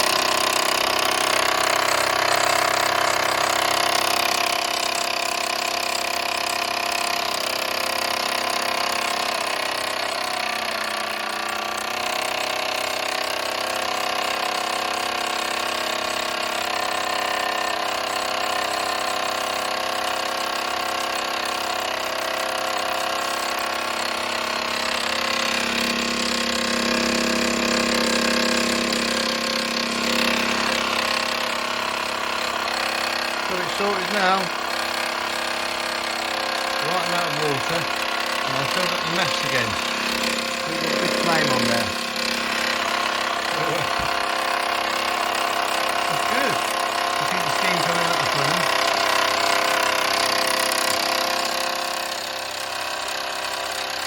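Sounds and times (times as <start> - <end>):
toy steam engine running: 0.0 - 54.0.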